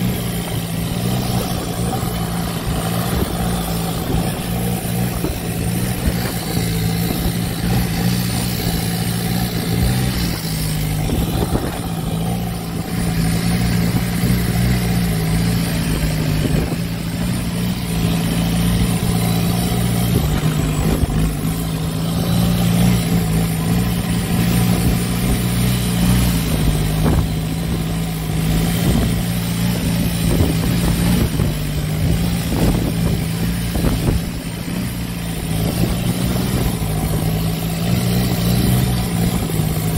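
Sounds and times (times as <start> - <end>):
boat engine droning: 0.0 - 39.9
hiss of wind and water: 0.0 - 39.9.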